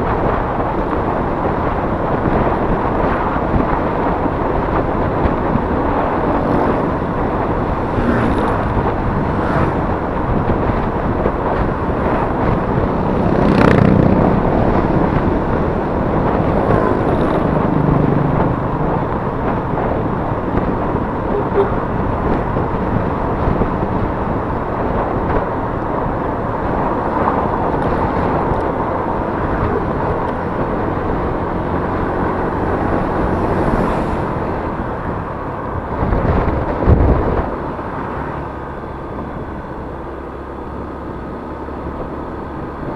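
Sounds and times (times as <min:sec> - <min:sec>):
scooter engine riding: 0:00.0 - 0:42.9
surrounding traffic: 0:00.0 - 0:42.9
wind rushing over microphone: 0:00.0 - 0:42.9.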